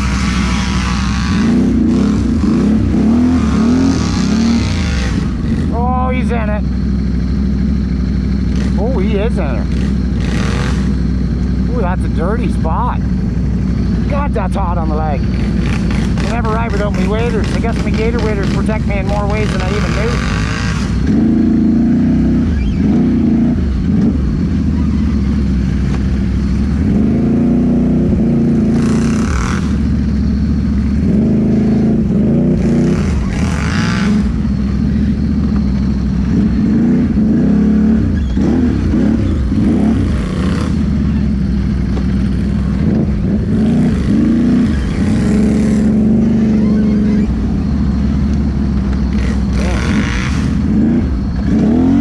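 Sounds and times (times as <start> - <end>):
quad engine revving: 0.0 - 6.8, 8.4 - 13.1, 13.9 - 52.0.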